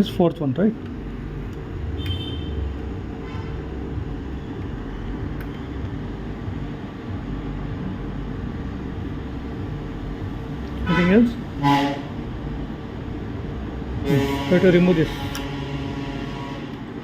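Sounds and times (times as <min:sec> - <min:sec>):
low background rumble and hum: 0:00.0 - 0:17.0.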